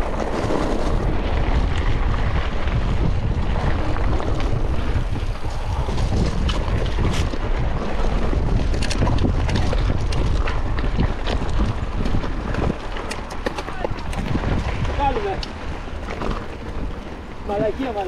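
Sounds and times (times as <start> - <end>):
bike clicks and knocks: 0.0 - 17.1
bike rumbling on dirt trail: 0.0 - 18.0
wind buffeting microphone: 0.0 - 18.0.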